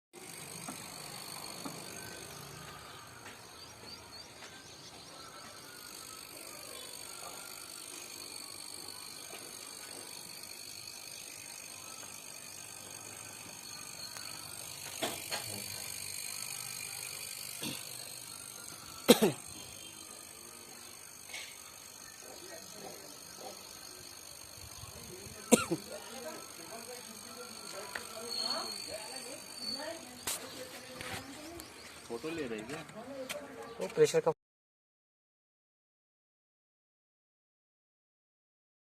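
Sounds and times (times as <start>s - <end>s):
vacuum pump whining: 0.2s - 33.1s.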